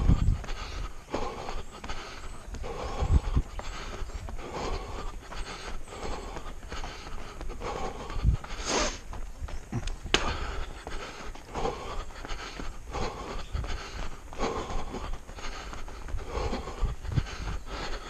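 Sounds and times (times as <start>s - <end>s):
footsteps on gravel: 0.0s - 18.0s
heavy panting breaths: 0.0s - 18.0s.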